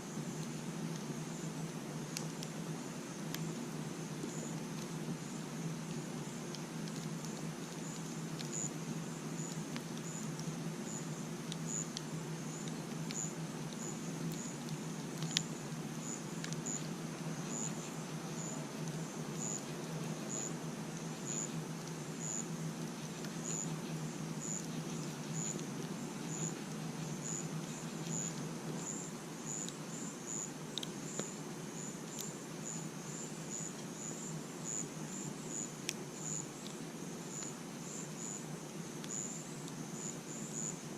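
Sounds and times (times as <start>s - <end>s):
cricket chirping: 0.0s - 40.9s
campfire crackling and popping: 0.1s - 34.5s.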